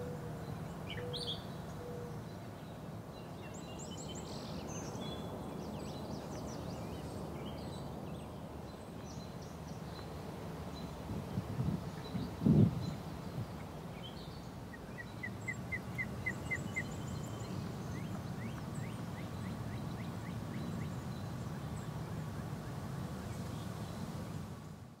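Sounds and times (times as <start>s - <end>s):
birds chirping: 0.0s - 22.4s.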